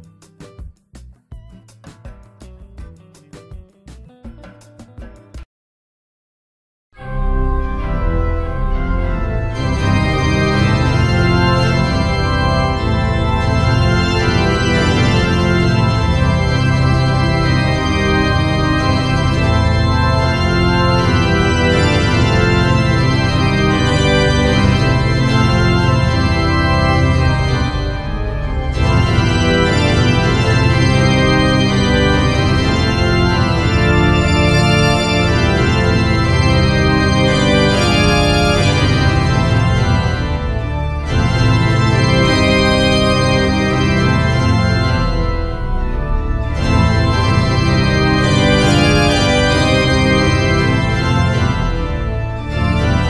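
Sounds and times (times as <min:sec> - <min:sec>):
background music of held chords: 0:00.0 - 0:05.4, 0:07.0 - 0:53.0.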